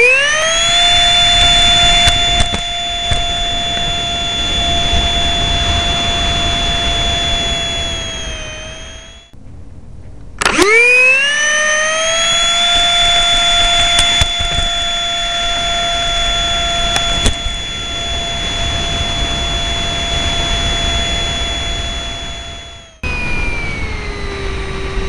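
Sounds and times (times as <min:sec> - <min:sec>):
electric ducted fan whine: 0:00.0 - 0:25.0.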